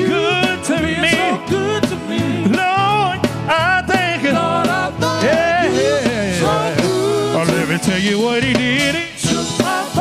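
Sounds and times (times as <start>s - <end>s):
bass guitar: 0.0s - 10.0s
gospel group singing: 0.0s - 10.0s
steady drum beat: 0.0s - 10.0s.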